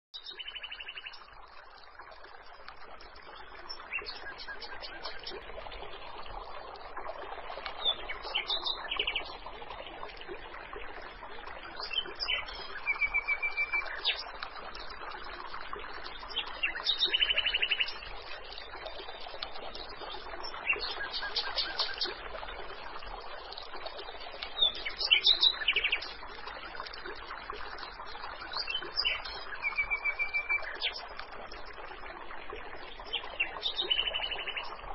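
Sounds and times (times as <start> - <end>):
running water: 0.2 - 34.9.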